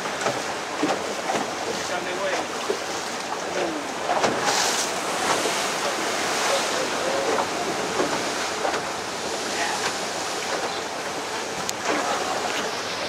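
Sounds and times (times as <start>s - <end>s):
surf breaking against rocks: 0.0s - 13.0s.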